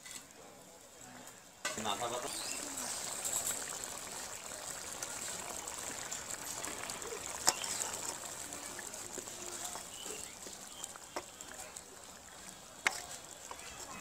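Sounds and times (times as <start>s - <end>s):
curry bubbling: 0.8s - 14.0s
spatula stirring in pan: 1.7s - 14.0s.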